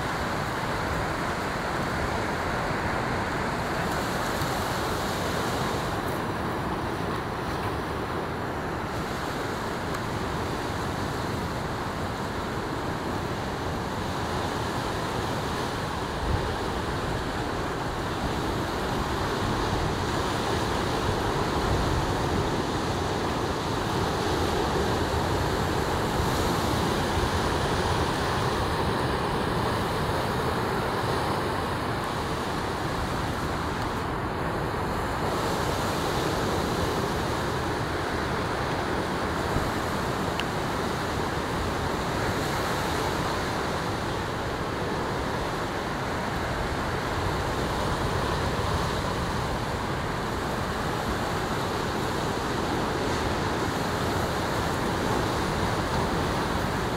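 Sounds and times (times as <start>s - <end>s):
ocean surf washing: 0.0s - 56.9s.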